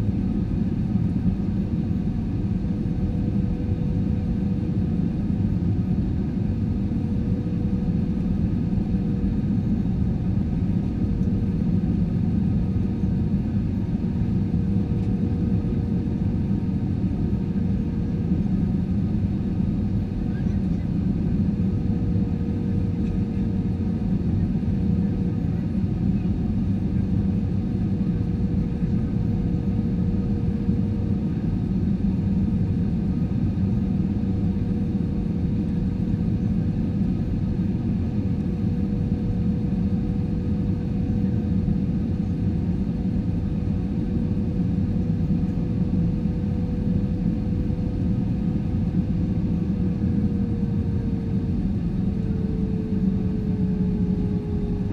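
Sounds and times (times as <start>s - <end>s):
airliner cabin rumble: 0.0s - 54.9s
engine whine: 0.0s - 54.9s.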